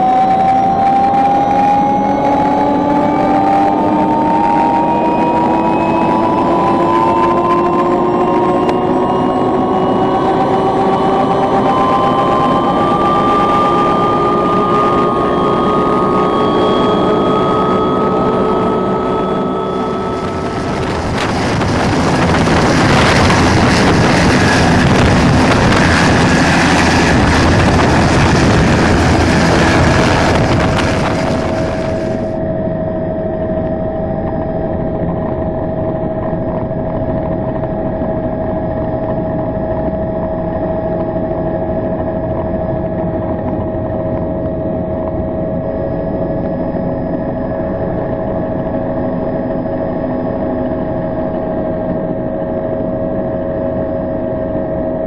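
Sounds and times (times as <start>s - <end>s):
helicopter turbine and rotor: 0.0s - 55.0s
turbine whine: 0.0s - 55.0s.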